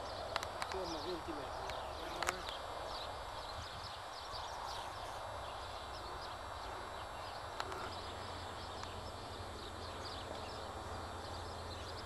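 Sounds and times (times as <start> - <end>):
small birds chirping: 0.0 - 12.0
steady hiss: 0.0 - 12.0.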